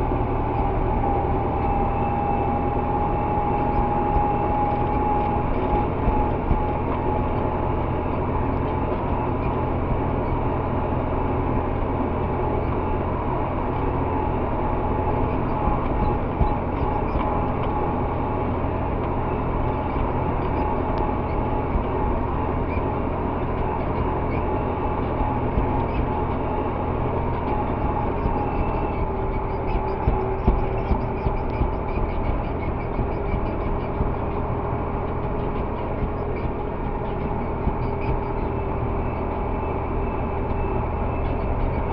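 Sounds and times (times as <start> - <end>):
high whine: 0.0 - 41.9
tractor engine running: 0.0 - 41.9.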